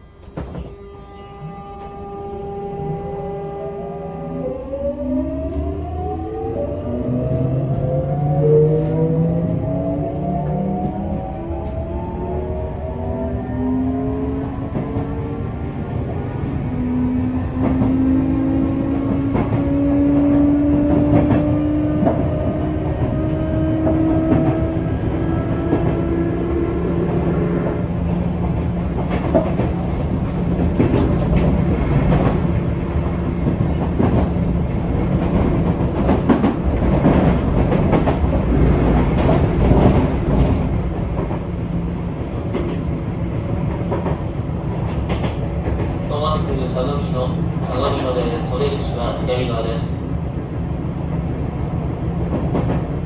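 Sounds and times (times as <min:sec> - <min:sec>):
train running hum: 0:00.0 - 0:53.0.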